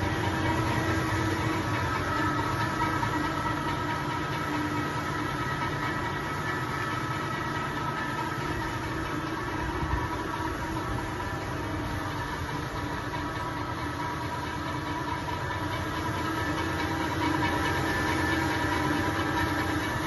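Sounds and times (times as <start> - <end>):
machine motors humming and whirring: 0.0 - 20.0.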